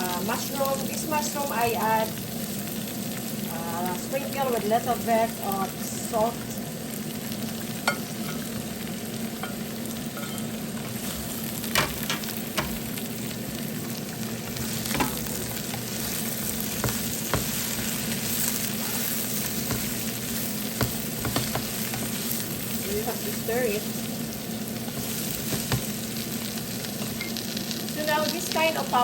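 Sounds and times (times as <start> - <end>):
vegetables sizzling in a frying pan: 0.0 - 29.0.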